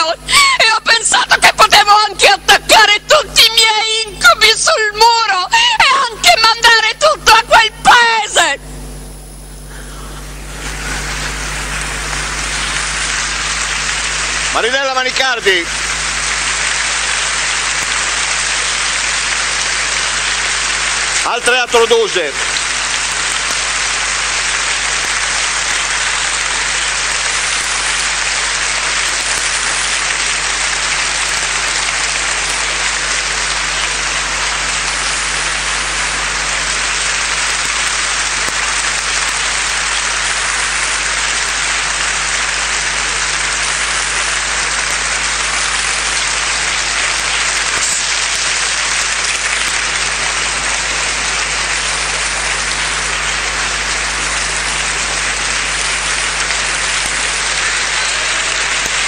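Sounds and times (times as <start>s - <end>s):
audience applauding: 9.7s - 59.0s.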